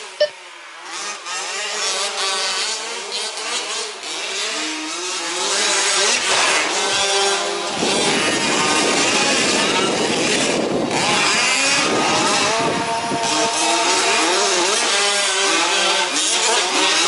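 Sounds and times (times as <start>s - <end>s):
small two-stroke engines revving: 0.0s - 17.0s.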